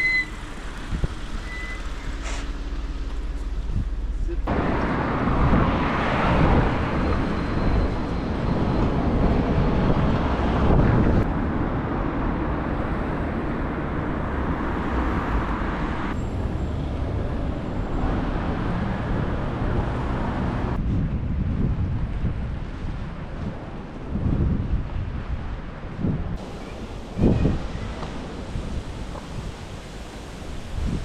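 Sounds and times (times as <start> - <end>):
city street noise: 0.0 - 31.0
wind buffeting microphone: 0.0 - 31.0.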